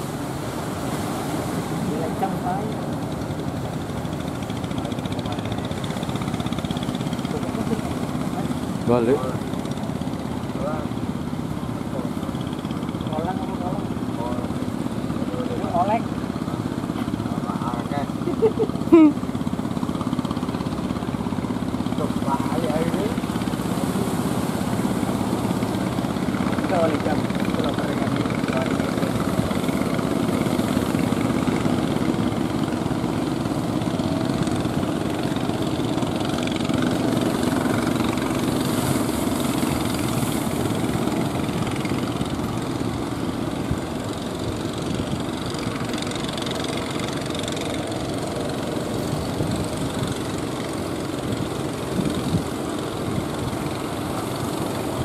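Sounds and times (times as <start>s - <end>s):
boat engine running: 0.0s - 55.0s
surf washing: 0.0s - 55.0s
wind: 0.0s - 55.0s.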